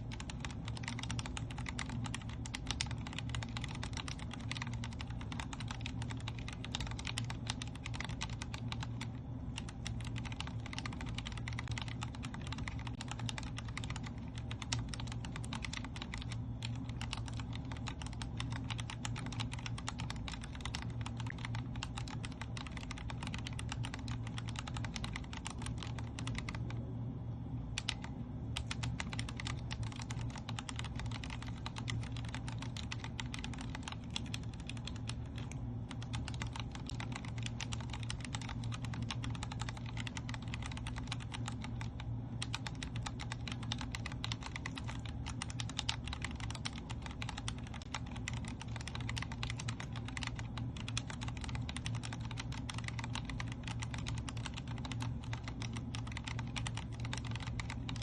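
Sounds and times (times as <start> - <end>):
mechanical keyboard typing: 0.0 - 26.8, 27.8 - 58.0
steady low hum: 0.0 - 58.0.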